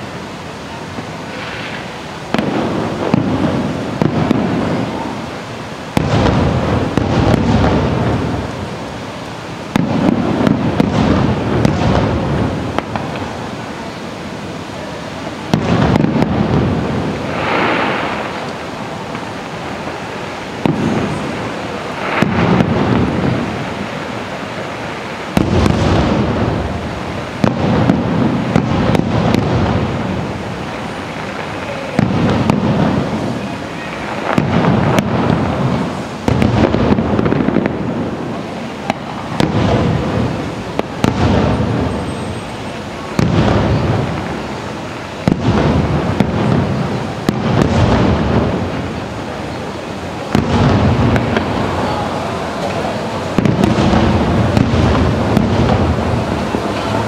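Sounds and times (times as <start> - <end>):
fireworks bangs and booms: 0.0 - 57.0
fireworks crackling: 0.0 - 57.0.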